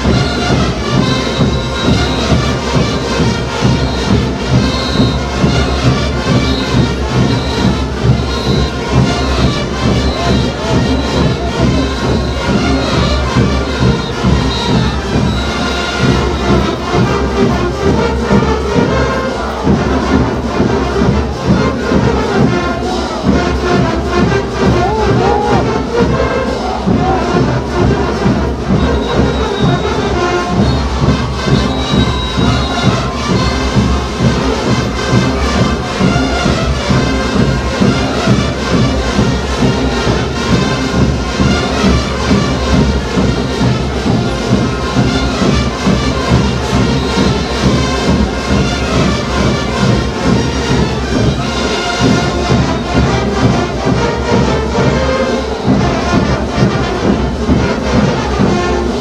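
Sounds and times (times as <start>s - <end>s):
band playing folk dance music: 0.0s - 59.0s.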